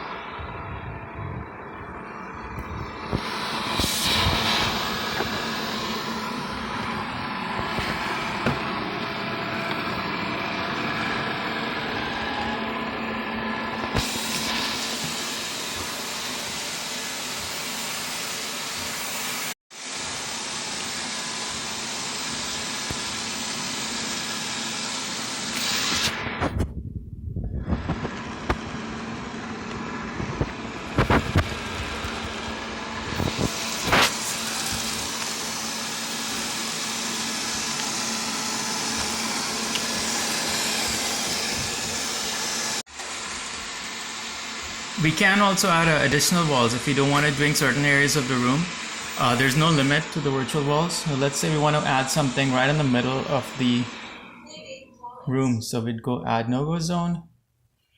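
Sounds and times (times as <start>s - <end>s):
robot vacuum fan whirring: 0.0s - 26.6s, 27.5s - 54.8s.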